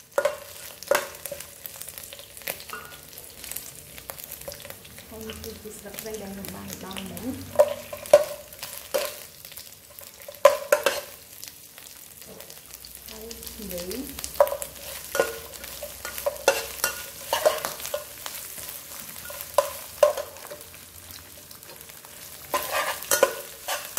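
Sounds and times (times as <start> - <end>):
food sizzling in a wok: 0.0 - 23.9.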